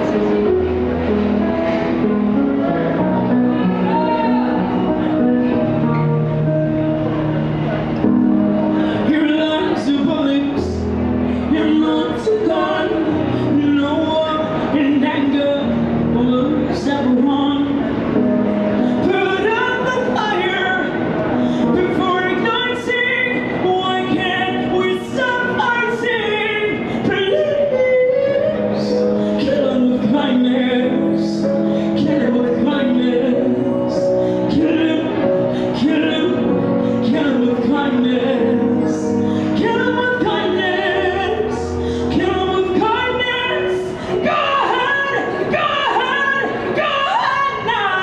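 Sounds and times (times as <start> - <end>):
woman singing into microphone: 8.0 - 48.0.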